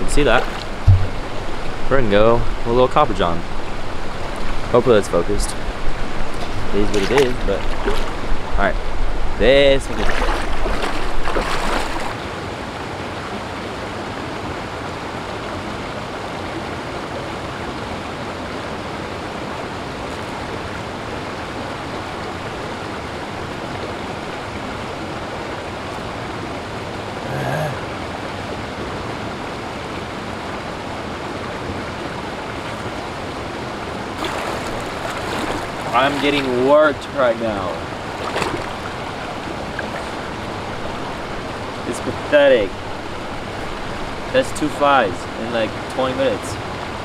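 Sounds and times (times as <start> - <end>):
rushing river water: 0.0 - 47.0.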